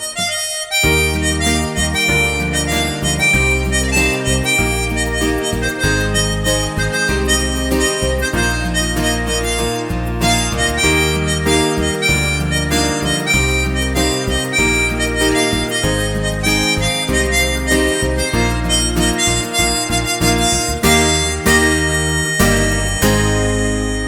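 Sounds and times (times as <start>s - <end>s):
harmonica melody: 0.0s - 24.0s
rhythmic strumming strokes: 0.0s - 24.0s
low bass line: 0.8s - 24.0s.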